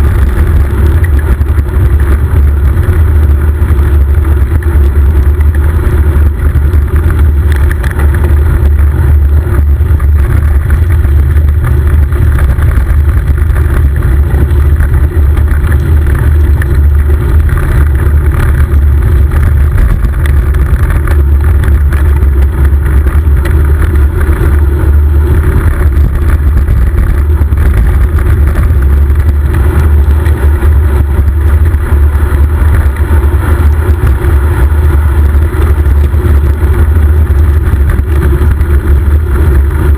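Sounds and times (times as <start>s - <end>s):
road and tyre noise: 0.0s - 39.9s
wind buffeting microphone: 0.0s - 39.9s.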